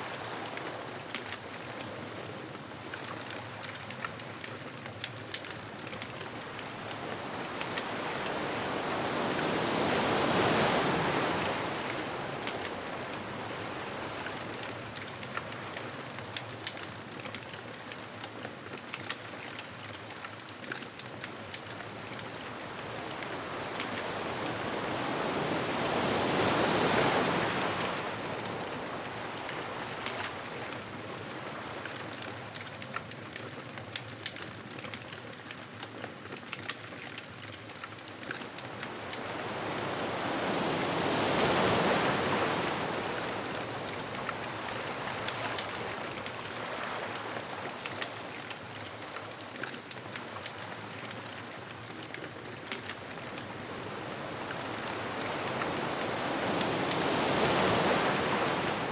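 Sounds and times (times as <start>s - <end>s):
ocean waves breaking on beach: 0.0s - 35.1s, 37.0s - 58.9s
bonfire crackling and popping: 0.3s - 8.8s, 11.2s - 24.4s, 26.5s - 40.2s, 41.0s - 58.9s.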